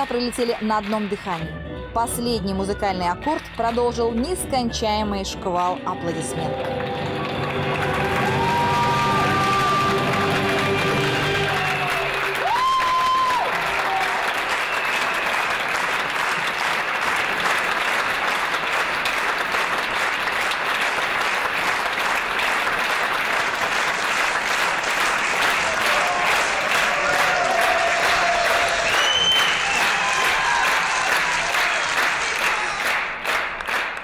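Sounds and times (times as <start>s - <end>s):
audience applauding: 0.0s - 1.5s, 5.5s - 34.0s.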